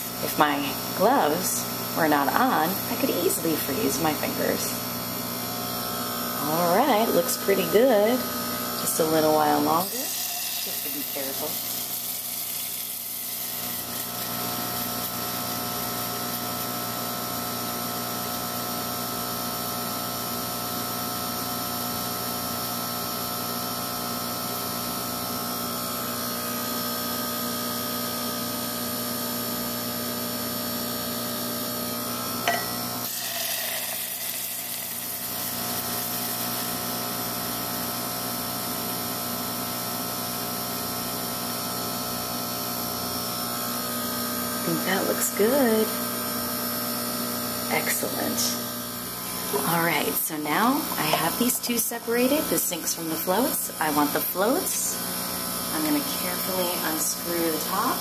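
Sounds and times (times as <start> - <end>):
magnetic separator electrical buzz: 0.0 - 58.0.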